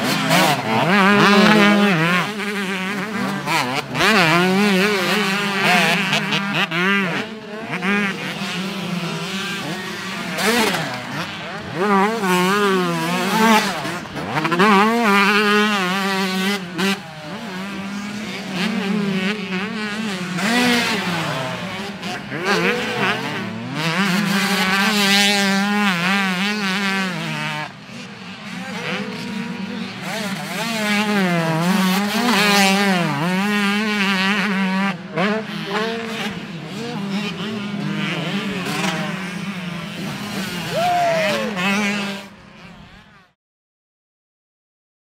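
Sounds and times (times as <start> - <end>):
motocross bike engines revving: 0.0 - 43.4.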